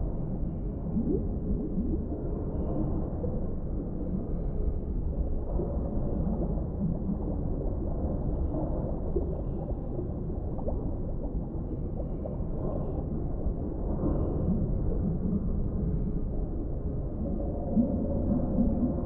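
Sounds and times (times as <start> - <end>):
deep underwater rumble: 0.0 - 19.0
underwater gurgles and bubbles: 0.0 - 19.0.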